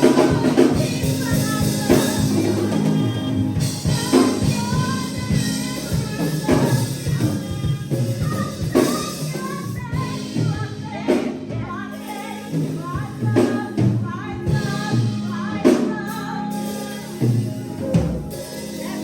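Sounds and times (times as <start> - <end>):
gospel music with singing: 0.0 - 19.0.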